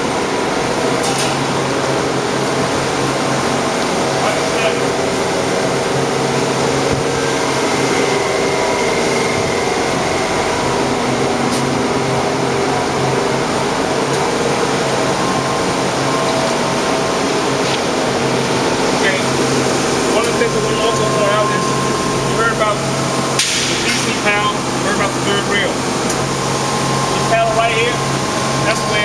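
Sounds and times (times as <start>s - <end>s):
machinery drone: 0.0s - 29.0s.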